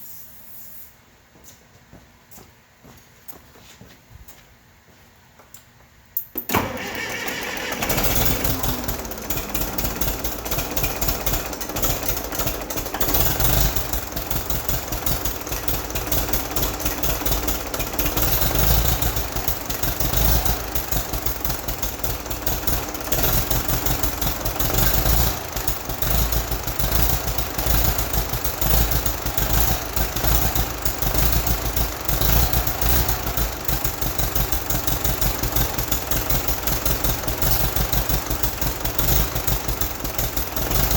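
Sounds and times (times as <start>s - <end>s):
diesel engine cranking on starter: 6.4s - 40.9s.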